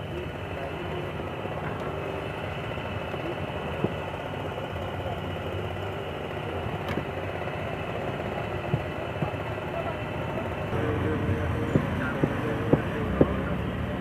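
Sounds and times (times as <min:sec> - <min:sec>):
engine-like hum: 0:00.0 - 0:14.0
faint voices: 0:00.0 - 0:14.0.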